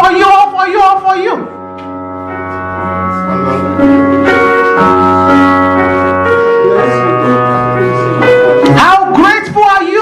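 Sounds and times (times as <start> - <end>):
keyboard playing sustained chords: 0.0 - 10.0.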